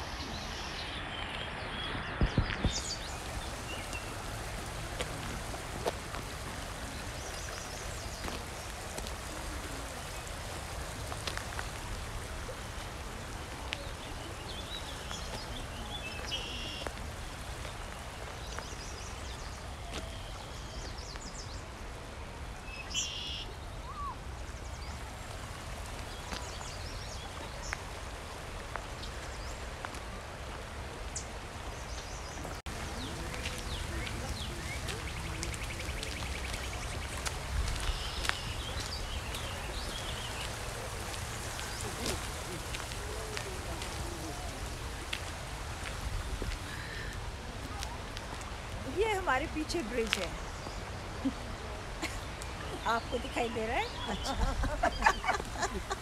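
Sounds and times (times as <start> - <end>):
small birds chirping: 0.0 - 21.8, 22.6 - 56.0
river flowing over rocks: 0.0 - 56.0.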